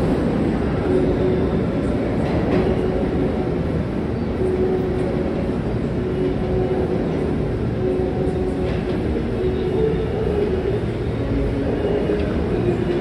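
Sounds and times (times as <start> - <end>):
subway trains rumbling: 0.0 - 13.0
train hum: 0.0 - 13.0.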